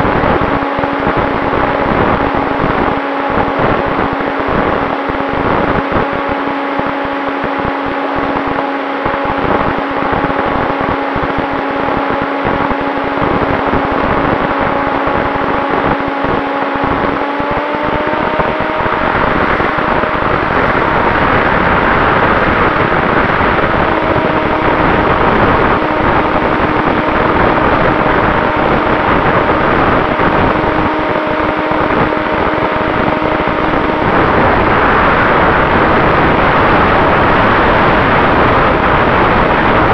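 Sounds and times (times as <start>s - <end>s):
electric motor and propeller whine: 0.0s - 39.9s
wind rushing on microphone: 0.0s - 39.9s.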